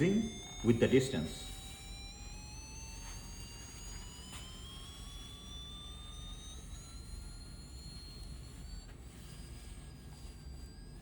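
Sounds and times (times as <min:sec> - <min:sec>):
buzzy tone rising in pitch: 0:00.0 - 0:11.0.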